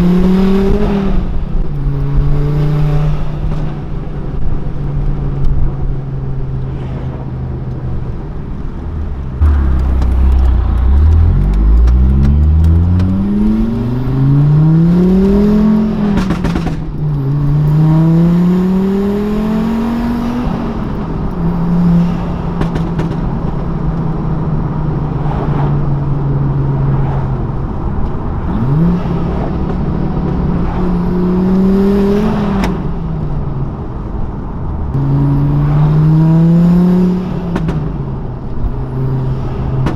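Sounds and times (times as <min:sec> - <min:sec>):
car engine accelerating through gears: 0:00.0 - 0:04.0, 0:06.9 - 0:39.9.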